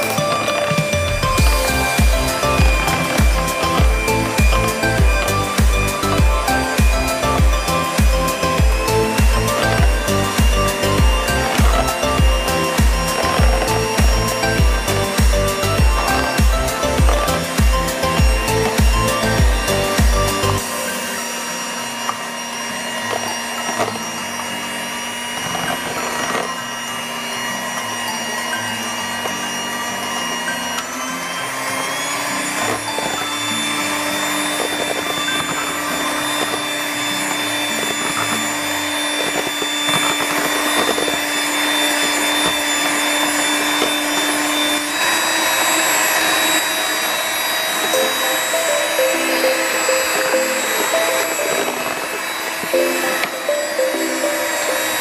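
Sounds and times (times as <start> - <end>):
electric hand mixer whining: 0.0 - 55.0.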